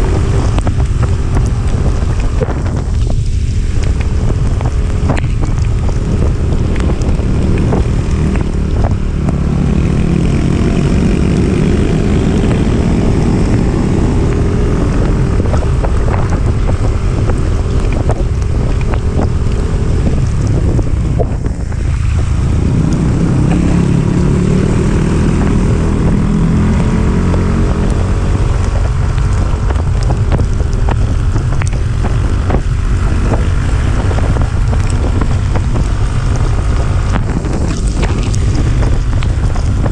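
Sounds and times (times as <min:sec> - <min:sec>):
motorcycle engine pulling uphill: 0:00.0 - 0:39.9
wind buffeting on microphone: 0:00.0 - 0:39.9.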